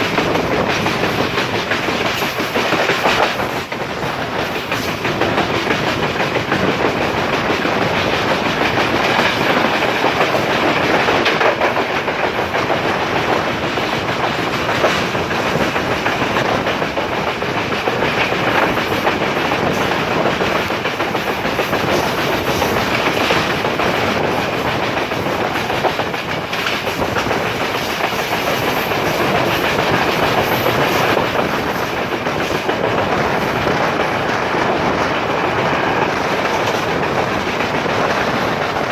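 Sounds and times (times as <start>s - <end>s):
rail joints clattering: 0.0s - 38.9s
train wheels rumbling on rail: 0.0s - 38.9s.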